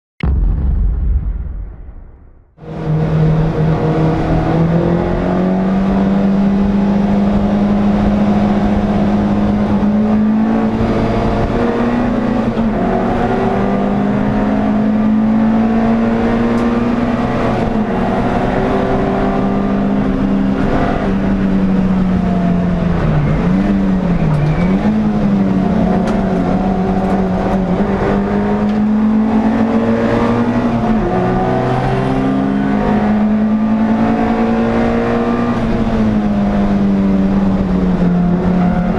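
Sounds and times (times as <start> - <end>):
race car engine running hard: 2.6 - 38.9.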